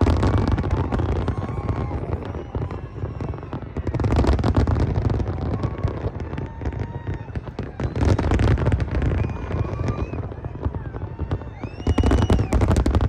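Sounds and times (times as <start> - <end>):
faint whistles of rising fireworks: 0.0 - 13.0
fireworks booming and crackling: 0.0 - 13.0.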